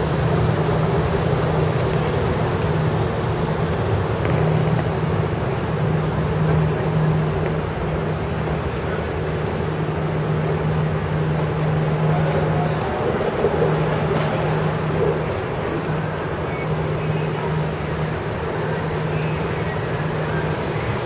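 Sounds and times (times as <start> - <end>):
road noise from moving vehicle: 0.0 - 21.0.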